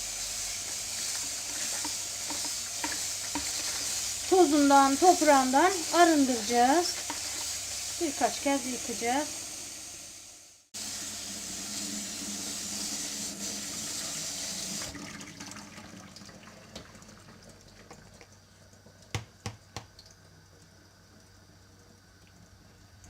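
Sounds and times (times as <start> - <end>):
tap water running: 0.0 - 23.0.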